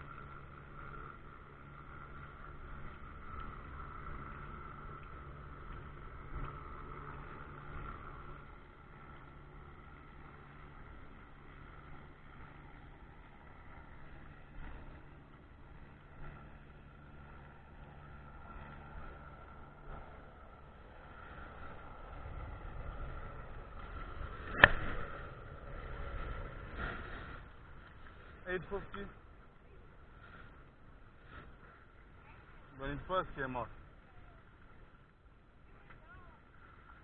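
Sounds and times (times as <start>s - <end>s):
engine droning: 0.0s - 37.0s
faint steady whine: 0.0s - 37.0s.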